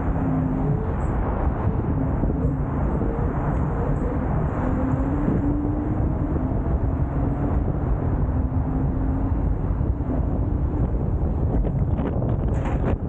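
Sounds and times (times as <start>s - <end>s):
electric scooter rumble: 0.0s - 13.0s
wind on microphone: 0.0s - 13.0s.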